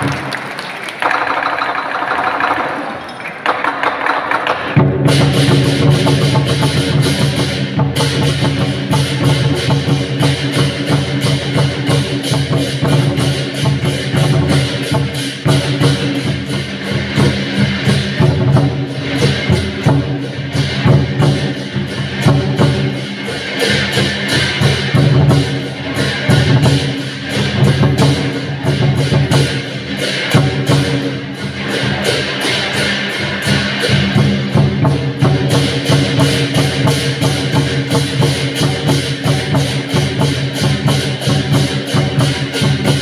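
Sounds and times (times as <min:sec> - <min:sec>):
drum beating: 0:00.0 - 0:43.0
cymbals crashing: 0:01.0 - 0:43.0.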